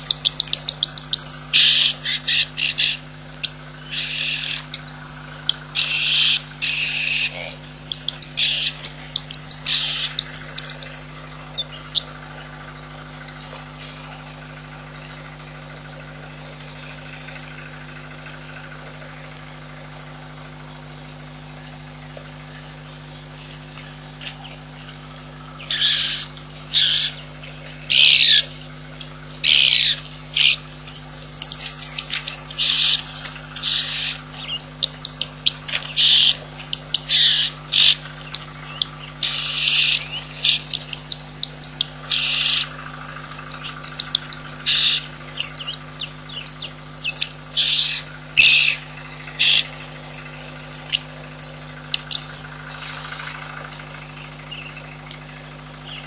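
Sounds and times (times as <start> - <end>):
birds calling: 0.0 - 56.0
steady low hum: 0.0 - 56.0.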